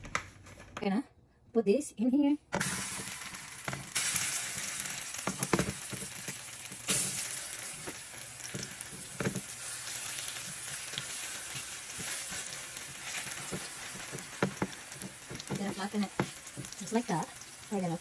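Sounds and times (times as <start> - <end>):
eggplant frying in hot oil: 2.6 - 18.0.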